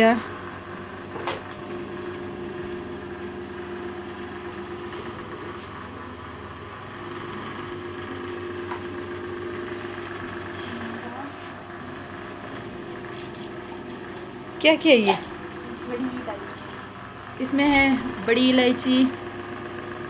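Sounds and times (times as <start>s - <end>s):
motor hum: 0.0s - 20.0s.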